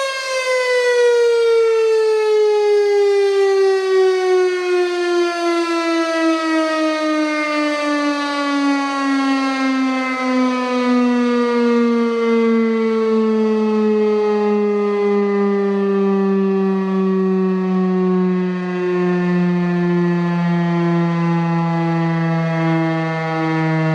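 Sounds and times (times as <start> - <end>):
fire siren sliding down in pitch: 0.0 - 23.9.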